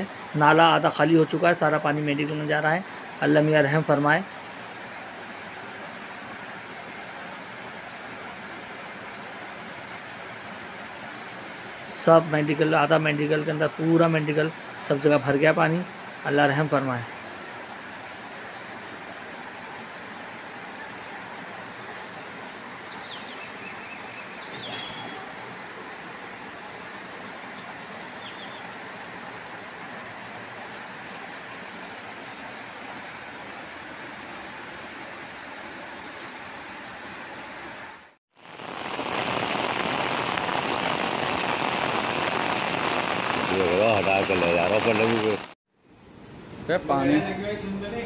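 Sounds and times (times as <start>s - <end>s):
heavy rain pouring: 0.0s - 45.6s
rain splashing onto water: 0.0s - 45.6s.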